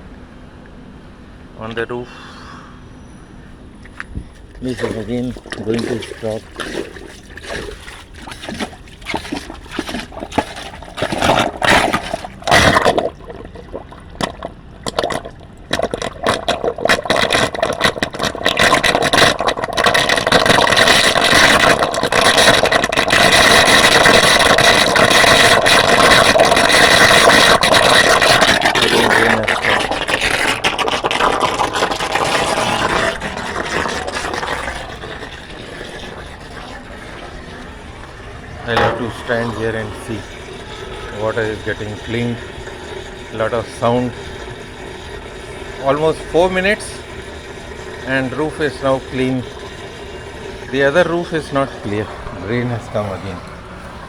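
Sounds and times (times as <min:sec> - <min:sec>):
rainwater rushing down a drain: 0:03.8 - 0:54.0
scraping and knocking at drain: 0:03.9 - 0:54.0.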